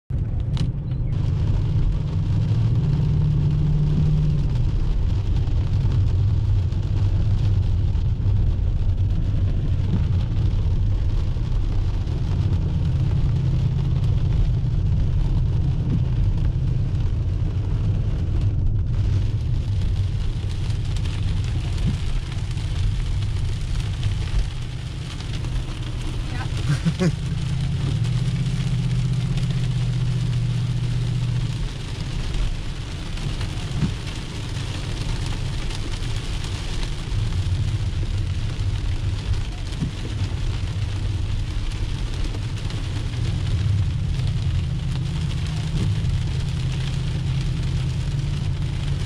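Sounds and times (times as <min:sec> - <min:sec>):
engine deep rumble: 0:00.1 - 0:49.0.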